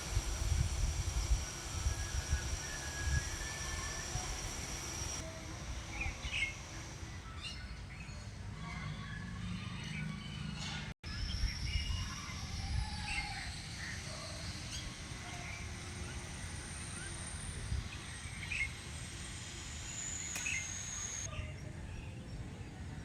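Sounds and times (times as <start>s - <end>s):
birds chirping: 0.0s - 22.4s.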